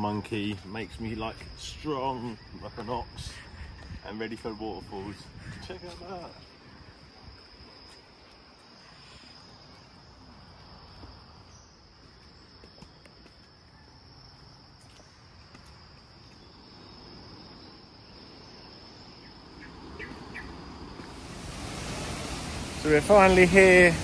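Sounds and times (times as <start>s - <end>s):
faint outdoor background noise: 0.0s - 24.0s
insects trilling: 0.0s - 24.0s.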